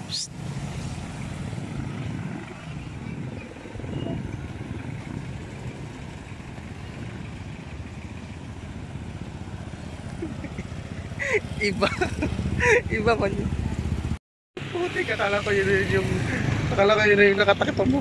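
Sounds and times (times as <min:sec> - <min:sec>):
motorcycles and tricycles rumbling: 0:00.0 - 0:18.0.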